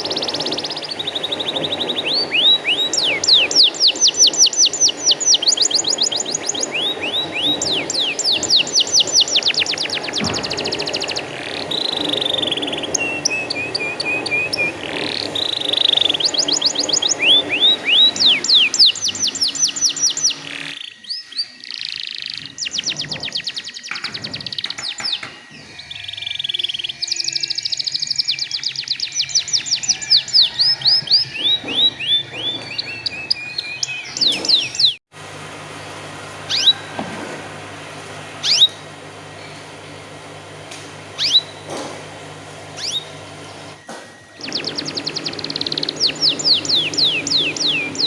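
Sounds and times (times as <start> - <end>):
canary singing trills: 0.0 - 35.0, 36.5 - 37.0, 38.4 - 39.8, 40.5 - 48.0.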